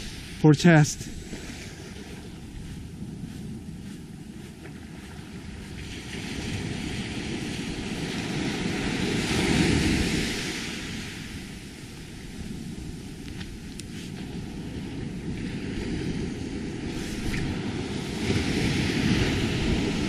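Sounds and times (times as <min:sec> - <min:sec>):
wave washing up beach: 0:00.0 - 0:02.8, 0:04.9 - 0:20.0.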